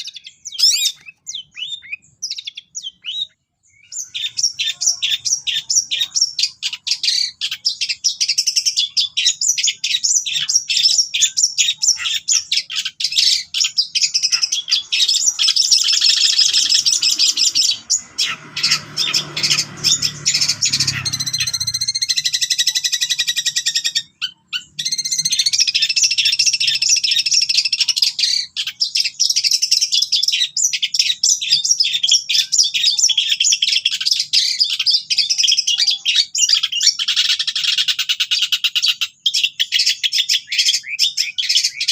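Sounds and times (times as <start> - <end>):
bird chattering and trilling: 0.0 - 41.9.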